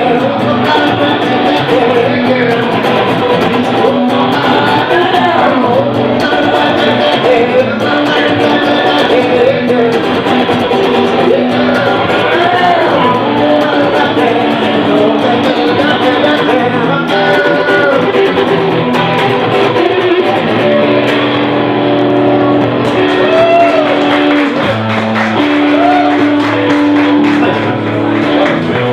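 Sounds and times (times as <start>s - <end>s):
bass notes: 0.0s - 28.9s
electric guitar lead: 0.0s - 28.9s.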